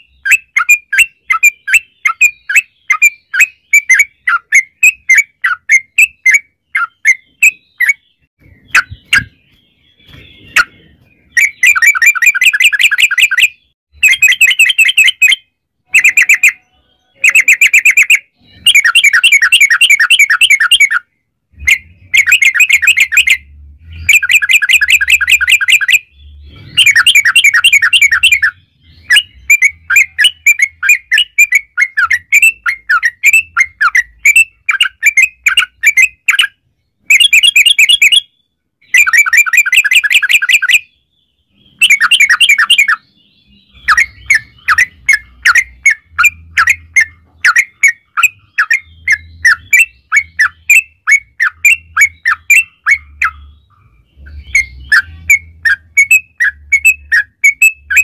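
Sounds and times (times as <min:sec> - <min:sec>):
bird chirps and rolling trills: 0:00.0 - 0:58.0.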